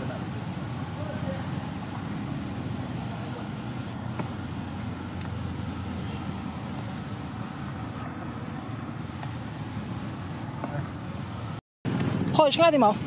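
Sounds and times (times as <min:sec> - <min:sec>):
low outdoor rumble: 0:01.8 - 0:13.0.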